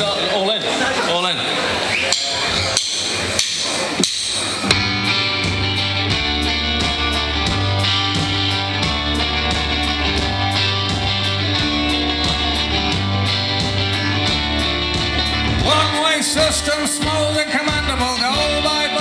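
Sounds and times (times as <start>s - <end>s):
rock band playing: 1.5s - 19.0s.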